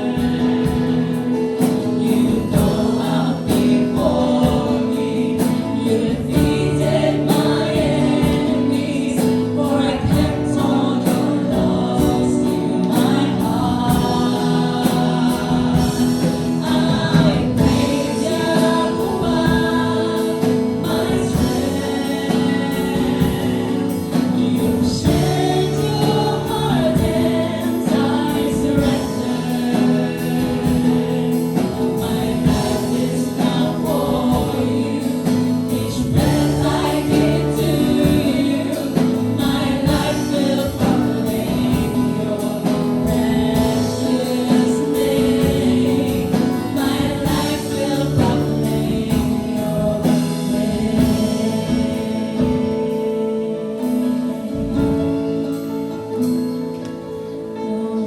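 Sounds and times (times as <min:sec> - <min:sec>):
band accompaniment with steady beat: 0:00.0 - 0:57.7
group singing gospel: 0:00.0 - 0:58.0.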